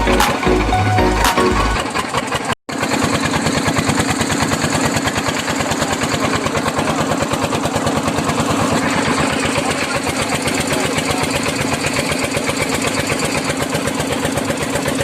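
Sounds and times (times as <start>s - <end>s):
small engine running: 1.6s - 15.0s.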